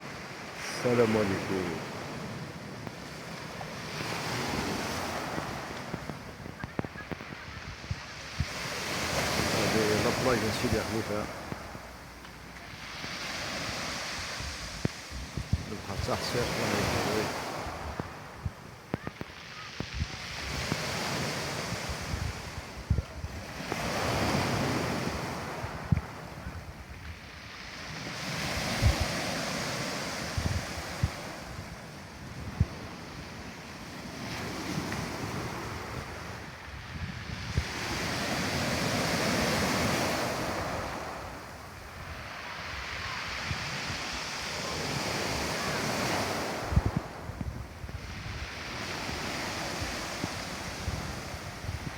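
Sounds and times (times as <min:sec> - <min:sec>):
sea waves breaking on shore: 0:00.0 - 0:51.9
wind thumping on microphone: 0:03.7 - 0:09.7, 0:13.0 - 0:16.1, 0:16.8 - 0:27.3, 0:28.0 - 0:33.5, 0:34.1 - 0:51.9.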